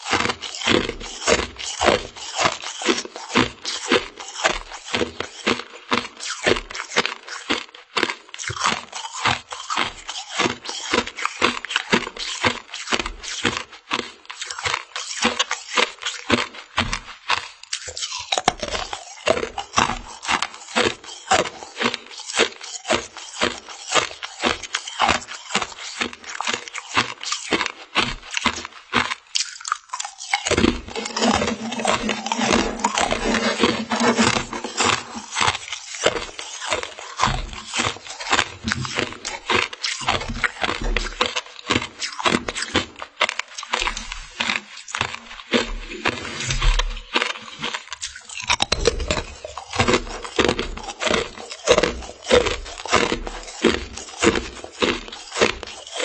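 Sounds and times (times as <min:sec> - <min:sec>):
crunching jelly candy: 0:00.0 - 0:56.0.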